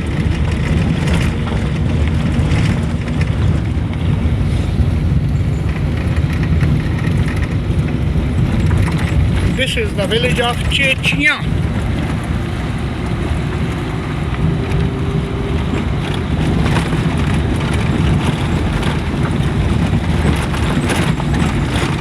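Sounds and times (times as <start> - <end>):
road noise: 0.0 - 22.0
vehicle engine rumble: 0.0 - 22.0.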